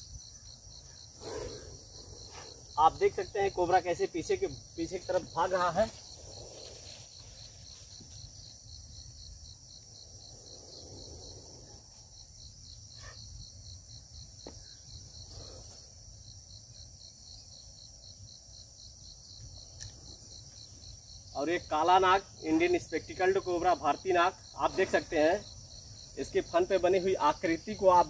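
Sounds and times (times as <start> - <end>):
insects chorus pulsing: 0.0 - 28.0.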